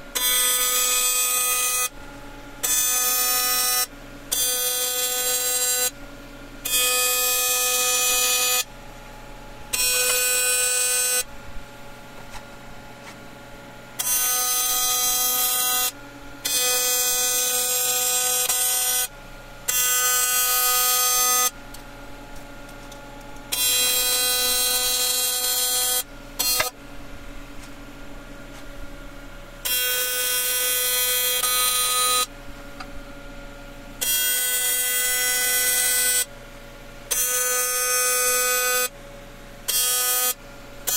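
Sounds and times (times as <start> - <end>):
welding arc buzzing: 0.0 - 6.0, 6.6 - 13.1, 14.0 - 33.2, 34.0 - 36.3, 37.1 - 38.9, 39.6 - 40.9.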